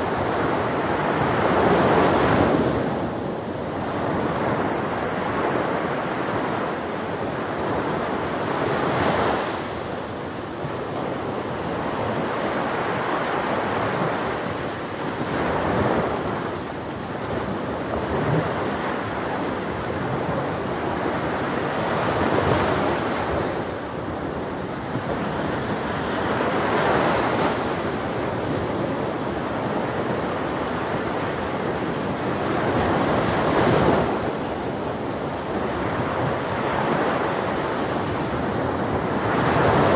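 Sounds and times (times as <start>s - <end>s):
waves breaking on shore: 0.0s - 39.9s
wind on microphone: 0.0s - 39.9s.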